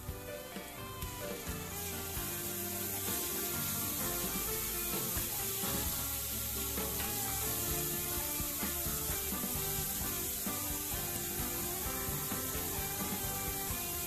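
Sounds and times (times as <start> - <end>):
background music: 0.0 - 14.0
onions sizzling in oil: 0.0 - 14.0
spatula stirring in pan: 1.3 - 14.0.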